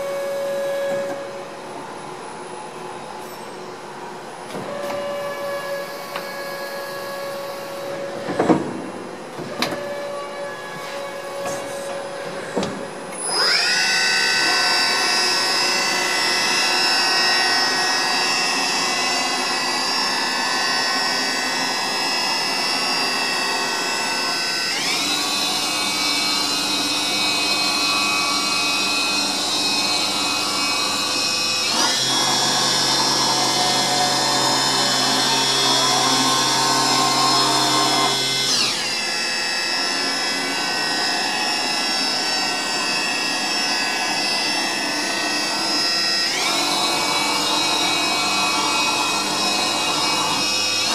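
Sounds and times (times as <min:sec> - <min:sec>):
machine spindle whine: 0:00.0 - 0:50.9.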